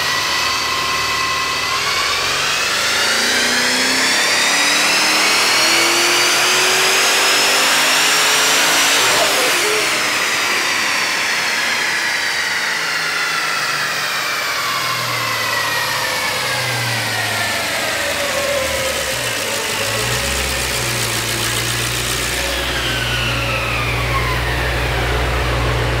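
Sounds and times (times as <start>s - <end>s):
car engine revving on dyno: 0.0s - 26.0s.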